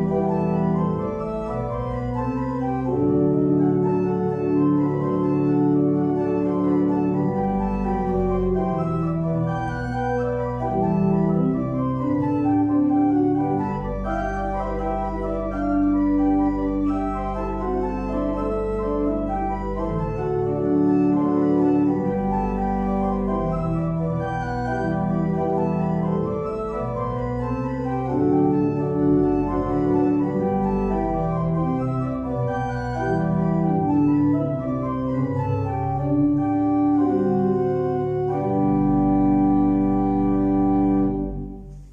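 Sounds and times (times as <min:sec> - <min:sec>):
organ playing held chords: 0:00.0 - 0:41.9.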